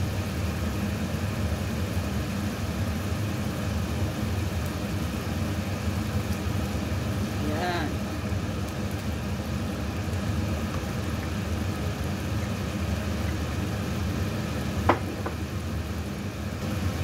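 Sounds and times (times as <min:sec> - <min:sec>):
tomato sauce simmering in a pan: 0:00.0 - 0:17.0.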